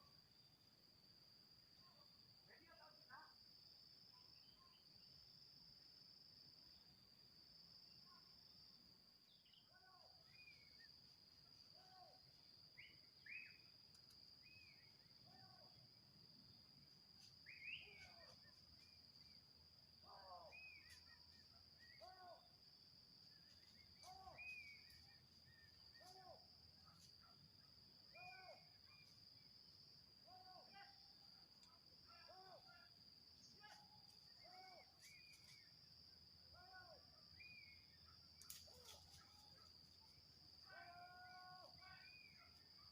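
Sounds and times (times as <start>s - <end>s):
insects droning high-pitched: 0.0s - 42.9s.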